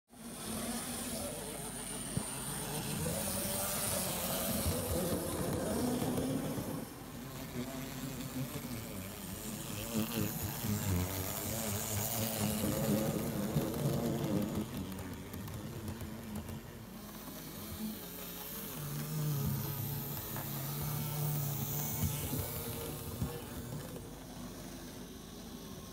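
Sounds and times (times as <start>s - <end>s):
model train motor whirring: 0.2s - 25.9s
wheels rolling over rails: 0.4s - 7.5s, 8.8s - 24.9s.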